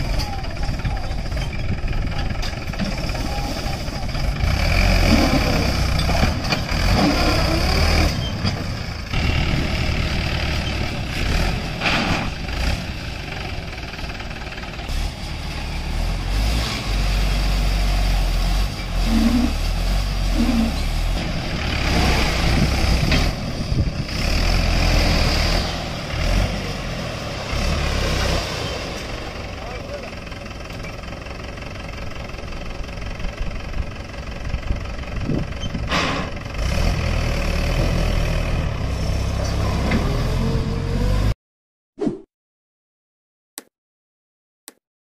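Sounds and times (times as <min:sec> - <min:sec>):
tractor diesel engine running: 0:00.0 - 0:41.3.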